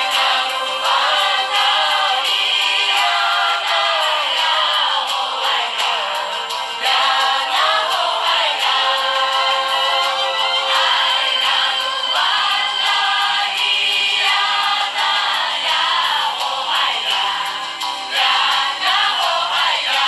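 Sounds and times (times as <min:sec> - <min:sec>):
music with singing voices: 0:00.0 - 0:20.0.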